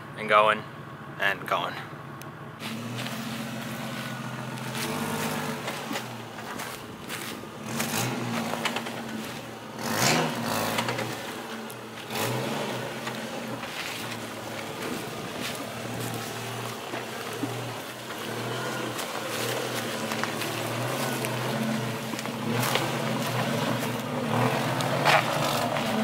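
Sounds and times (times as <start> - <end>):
truck engine at low speed: 0.0 - 26.0
tyres climbing over rocks: 2.8 - 26.0.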